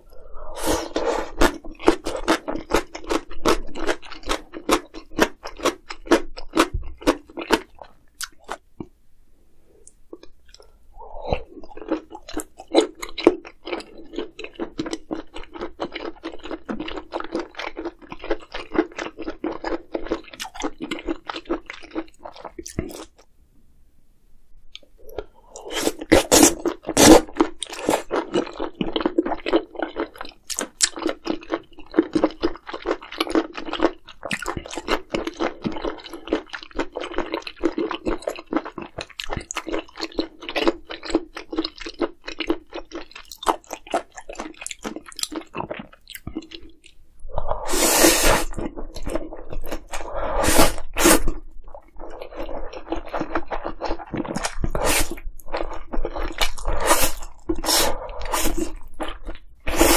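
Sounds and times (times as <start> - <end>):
person chewing food: 0.0 - 8.9, 9.8 - 23.3, 24.7 - 59.9.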